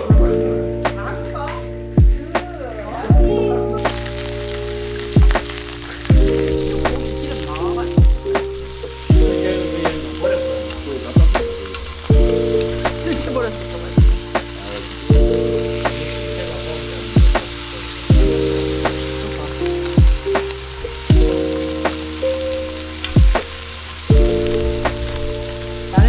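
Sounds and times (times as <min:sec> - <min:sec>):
soft background music: 0:00.0 - 0:26.0
food sizzling: 0:03.8 - 0:26.0.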